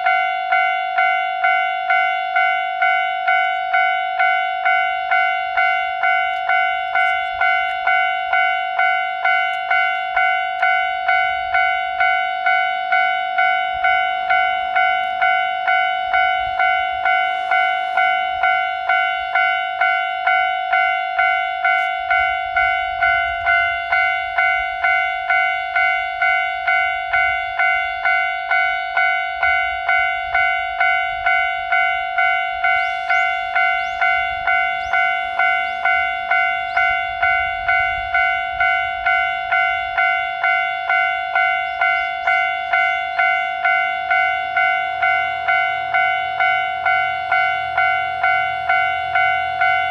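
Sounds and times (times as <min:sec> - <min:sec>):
level-crossing electronic bell: 0:00.0 - 0:49.9.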